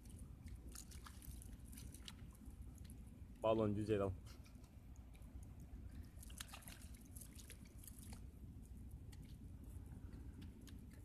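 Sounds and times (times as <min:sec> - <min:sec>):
water dripping and splashing: 0:00.0 - 0:03.5, 0:04.4 - 0:11.0
low steady rumble: 0:00.0 - 0:11.0.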